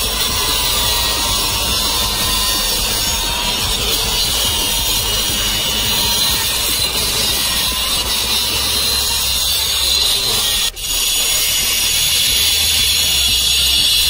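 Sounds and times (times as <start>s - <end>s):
angle grinder cutting: 0.0s - 14.0s.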